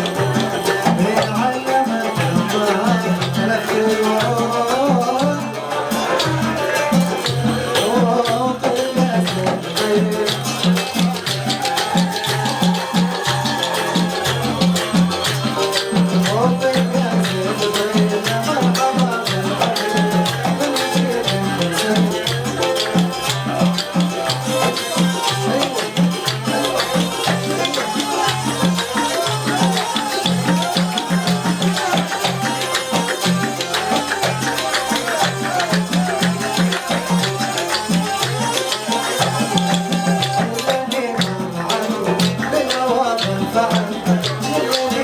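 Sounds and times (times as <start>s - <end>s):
band music with driving percussion: 0.0s - 45.0s.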